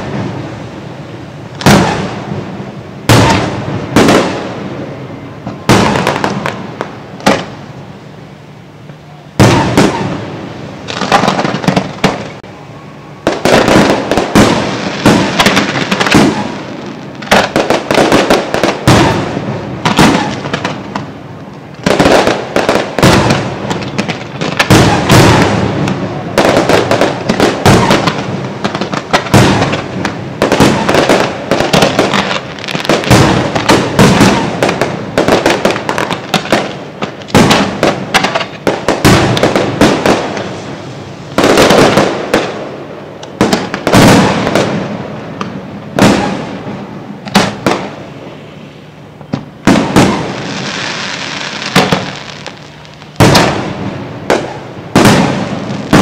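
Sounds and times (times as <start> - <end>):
fireworks bursting: 0.0 - 56.0
steady hiss: 0.0 - 56.0.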